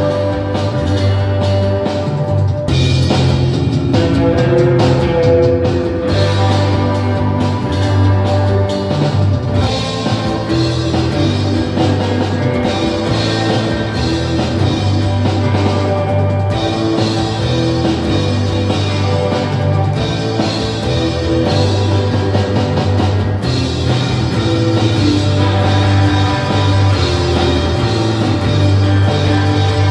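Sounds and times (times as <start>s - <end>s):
bass guitar: 0.0s - 29.9s
drum kit: 0.0s - 29.9s
electric guitar: 0.0s - 29.9s.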